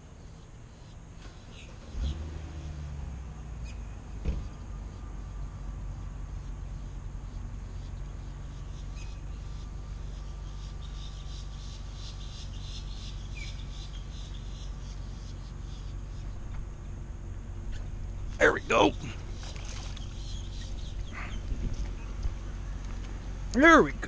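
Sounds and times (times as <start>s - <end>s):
insects chirping: 0.0s - 24.0s
low outdoor hum: 0.0s - 24.0s.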